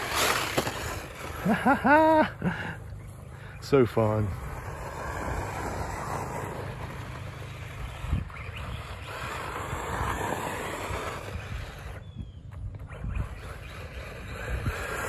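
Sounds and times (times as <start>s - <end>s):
tyres on loose dirt: 0.0s - 15.0s.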